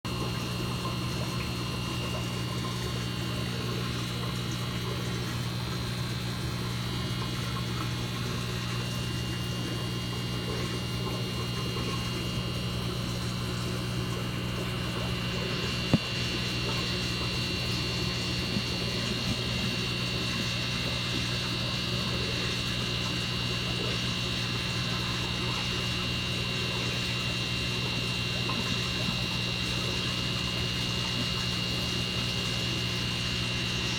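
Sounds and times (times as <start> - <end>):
aquarium pump humming: 0.1 - 33.9.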